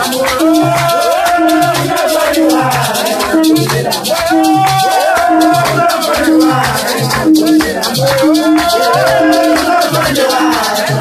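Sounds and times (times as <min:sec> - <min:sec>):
hand shakers rattling: 0:00.0 - 0:11.0
steady low beat: 0:00.0 - 0:11.0
voices singing: 0:00.0 - 0:11.0.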